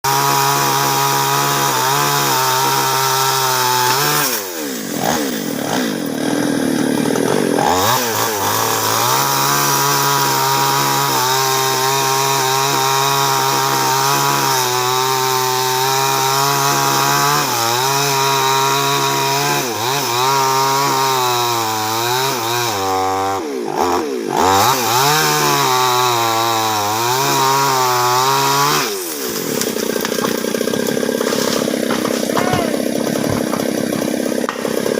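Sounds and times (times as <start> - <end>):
chainsaw cutting log: 0.0 - 34.9.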